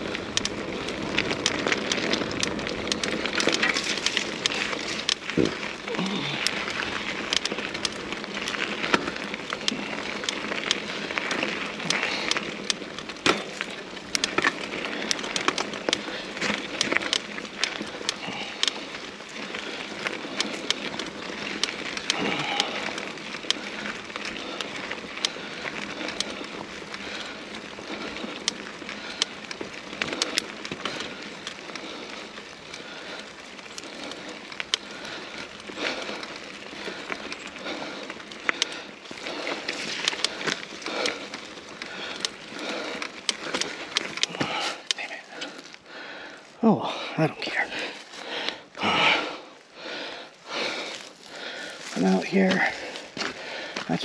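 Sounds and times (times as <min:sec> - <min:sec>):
bike clicks and rattles: 0:00.0 - 0:54.0
bike tyre and trail noise: 0:00.0 - 0:54.0.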